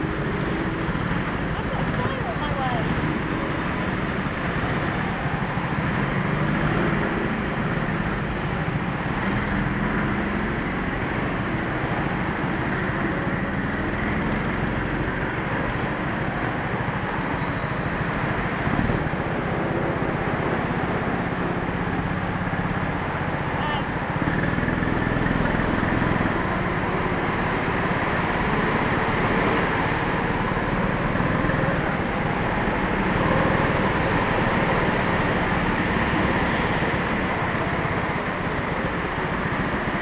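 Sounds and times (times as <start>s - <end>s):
go-kart engine running: 0.0s - 40.0s
road noise rushing: 0.0s - 40.0s.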